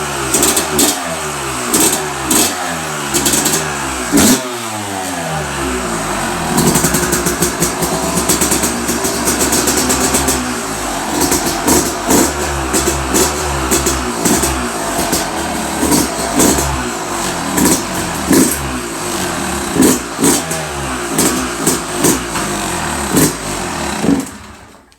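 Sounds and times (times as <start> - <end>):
two-stroke engine revving: 0.0 - 24.9.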